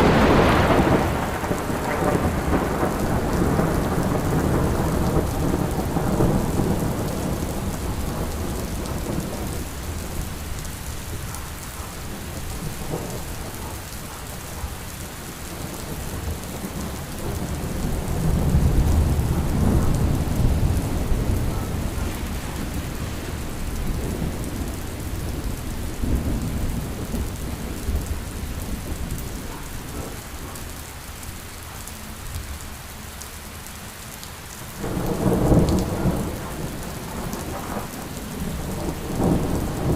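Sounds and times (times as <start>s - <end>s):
low rolling thunder: 0.0s - 30.9s, 34.8s - 39.9s
steady rain: 0.0s - 39.9s.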